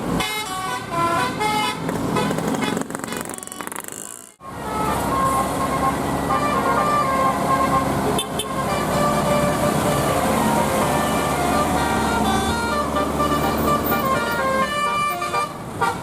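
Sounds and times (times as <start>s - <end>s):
engine and traffic rumble: 0.0s - 16.0s
multi-tone bus horn tune: 0.1s - 16.0s.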